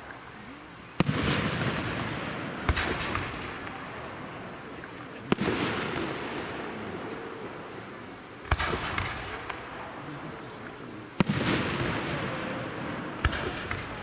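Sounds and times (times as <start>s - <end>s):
rumble and crackle: 0.0s - 14.0s
firework shells bursting: 1.0s - 14.0s.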